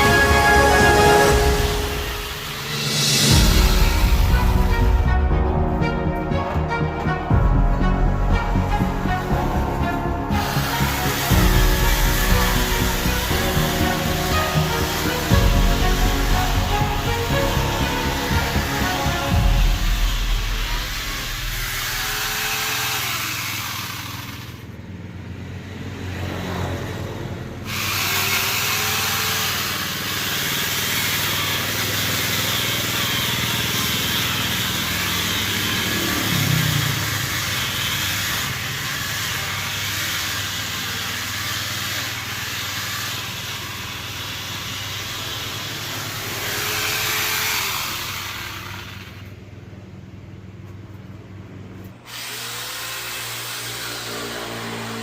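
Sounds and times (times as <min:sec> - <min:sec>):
chainsaw grinder cutting wood: 0:00.0 - 0:24.9, 0:27.6 - 0:49.4, 0:52.0 - 0:55.0.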